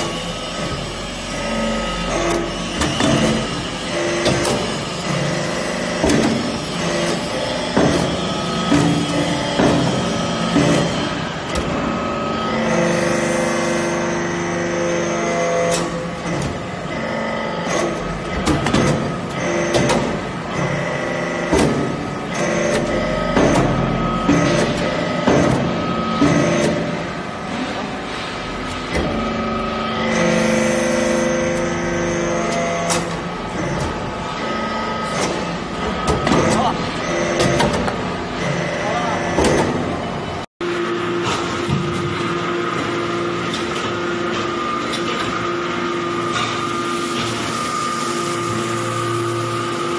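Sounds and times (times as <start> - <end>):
hydraulic press humming: 0.0 - 49.9.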